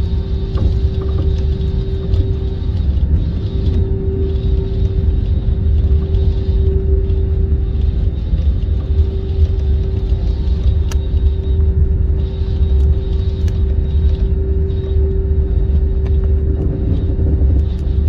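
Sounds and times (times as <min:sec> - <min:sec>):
constant hum: 0:00.0 - 0:18.0
jet airliner rumbling: 0:00.0 - 0:18.0.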